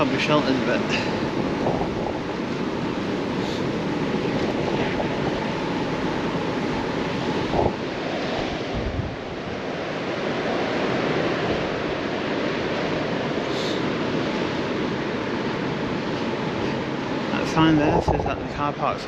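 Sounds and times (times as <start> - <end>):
wind blowing across microphone: 0.0 - 19.0.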